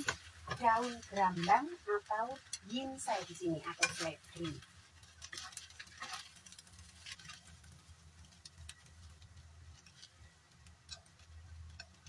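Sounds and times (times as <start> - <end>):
spatula scraping a wok: 0.0 - 11.0.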